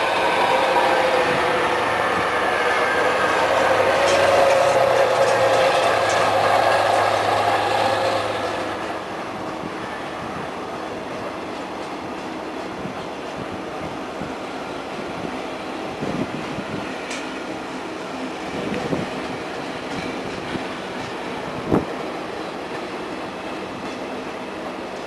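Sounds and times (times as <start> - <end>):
passenger train rolling past: 0.0 - 25.0.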